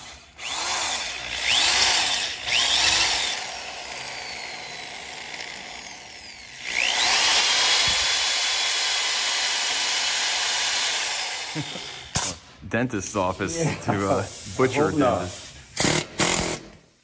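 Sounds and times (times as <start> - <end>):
electric drill boring into metal: 0.0 - 12.4, 15.4 - 16.8.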